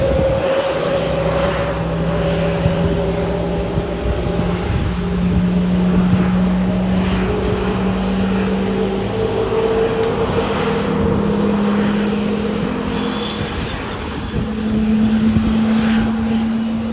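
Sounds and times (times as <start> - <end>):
jet airliner engine drone: 0.0 - 16.9.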